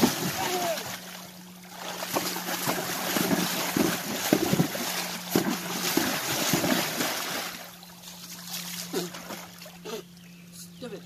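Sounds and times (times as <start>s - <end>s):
hoof splashing water: 0.0s - 10.2s.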